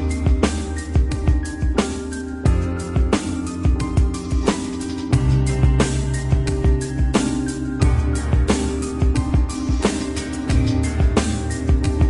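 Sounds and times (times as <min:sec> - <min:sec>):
music with steady drum beat: 0:00.0 - 0:12.0.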